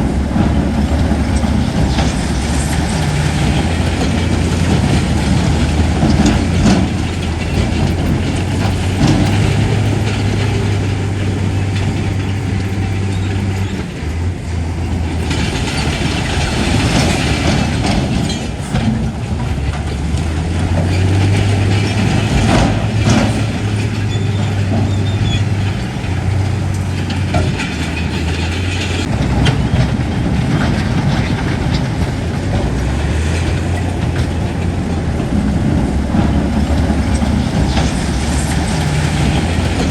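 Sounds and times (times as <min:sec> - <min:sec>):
heavy diesel machinery engine: 0:00.0 - 0:39.9
metallic clanks and knocks: 0:00.0 - 0:39.9.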